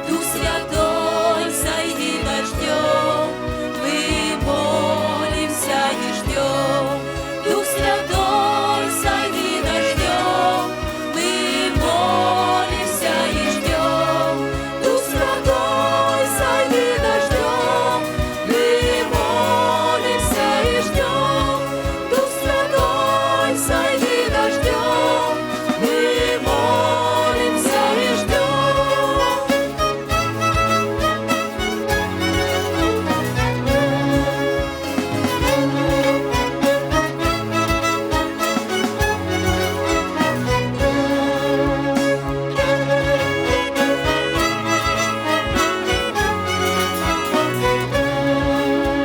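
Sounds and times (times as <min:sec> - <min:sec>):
bass: 0:00.0 - 0:49.0
singers with band: 0:00.0 - 0:49.0
steady drum beat: 0:00.0 - 0:49.0.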